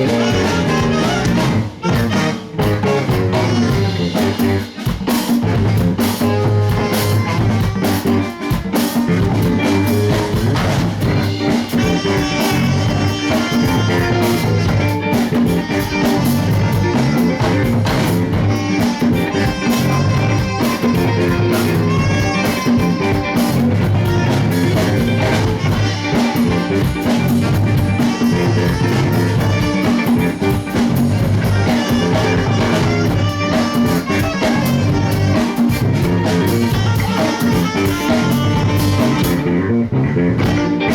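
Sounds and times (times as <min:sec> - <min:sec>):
drum kit steady beat: 0:00.0 - 0:39.5, 0:40.4 - 0:40.9
guitar playing: 0:00.0 - 0:40.9.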